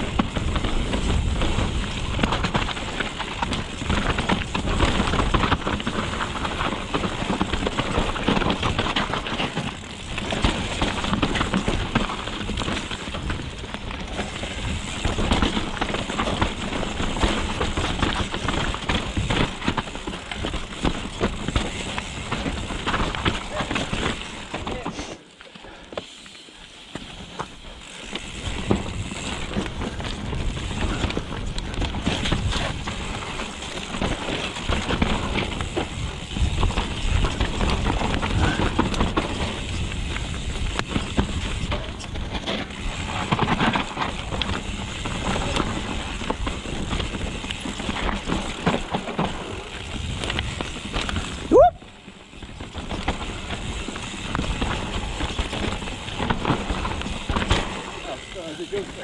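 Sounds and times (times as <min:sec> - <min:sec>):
bike clattering over bumps: 0:00.0 - 0:25.0, 0:25.6 - 0:59.0
bike tyre and wind noise: 0:00.0 - 0:59.0.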